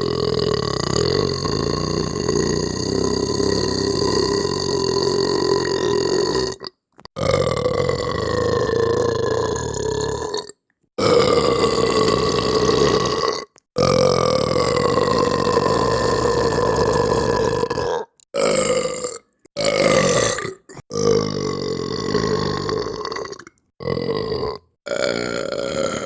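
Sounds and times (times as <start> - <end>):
person belching: 0.0 - 26.0.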